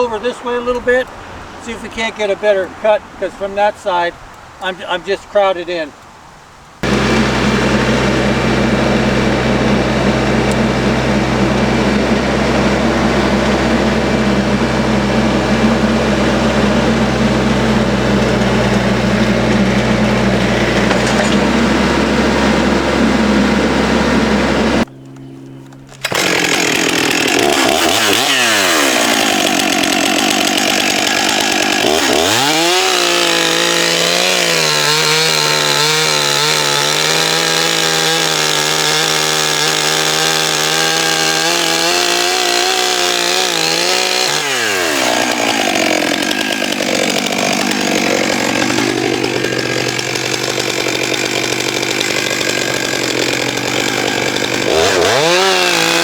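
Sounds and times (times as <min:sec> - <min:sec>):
chainsaw cutting a log: 0:06.8 - 0:24.9, 0:25.9 - 0:56.0.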